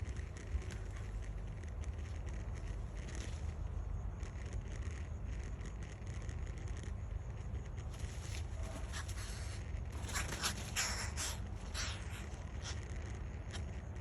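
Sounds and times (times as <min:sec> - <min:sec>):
faint clicks and rustles: 0:00.0 - 0:14.0.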